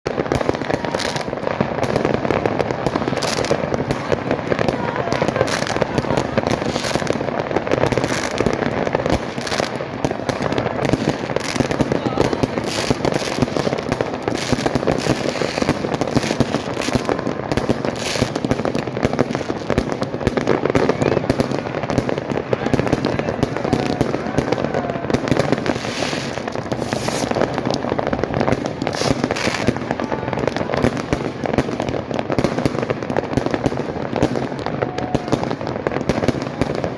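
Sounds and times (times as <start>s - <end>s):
fireworks crackling and banging: 0.0s - 36.9s.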